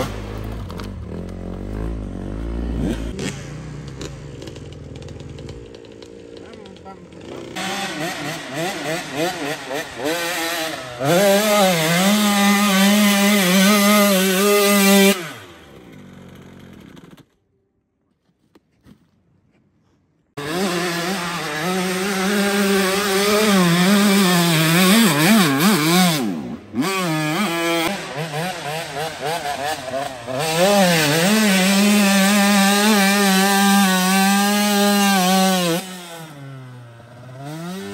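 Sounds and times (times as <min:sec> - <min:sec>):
motocross bike engine revving: 0:00.0 - 0:17.2, 0:20.4 - 0:37.9.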